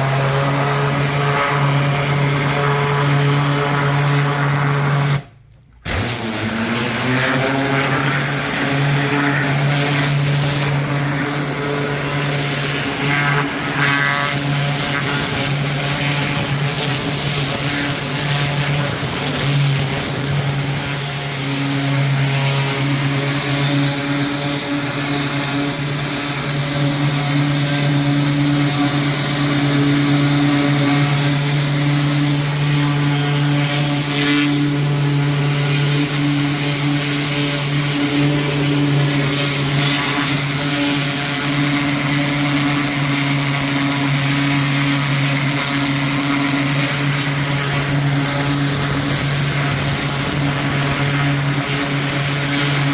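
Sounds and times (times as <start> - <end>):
small petrol engine running: 0.0 - 52.9
hiss: 5.9 - 52.9.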